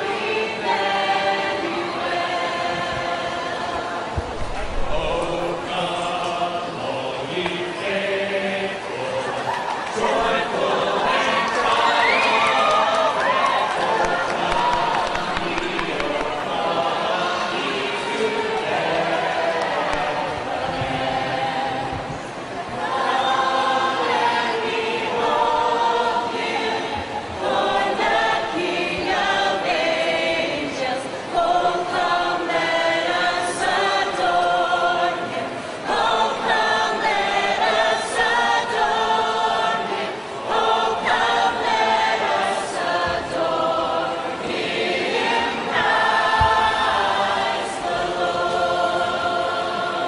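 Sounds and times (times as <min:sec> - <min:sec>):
choir singing: 0:00.0 - 0:50.0.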